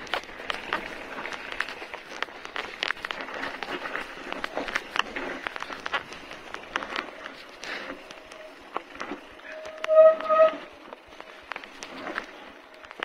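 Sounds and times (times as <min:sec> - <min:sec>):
bike tyres crackling over leaves: 0:00.0 - 0:13.0
sharp clicks and rattles: 0:00.0 - 0:13.0.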